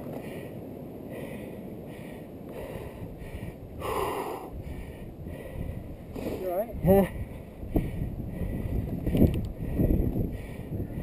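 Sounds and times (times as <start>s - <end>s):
bicycle road noise: 0.0s - 11.0s
wind rush: 0.0s - 11.0s.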